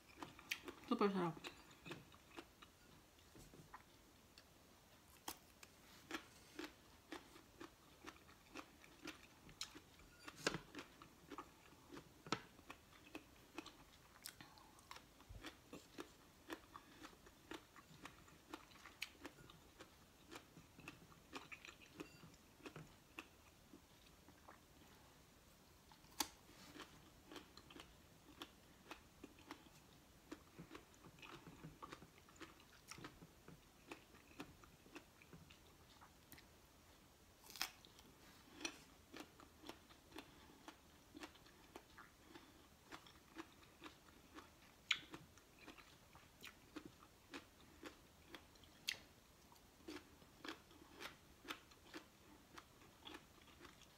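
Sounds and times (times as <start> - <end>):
biting and chewing fruit: 5.1 - 24.8, 25.9 - 36.5, 37.4 - 53.9.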